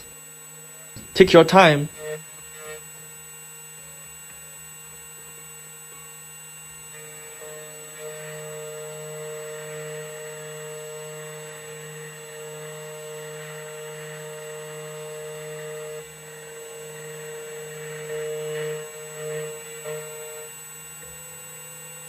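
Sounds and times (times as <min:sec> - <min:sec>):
key cutting machine whine: 0:00.0 - 0:22.0.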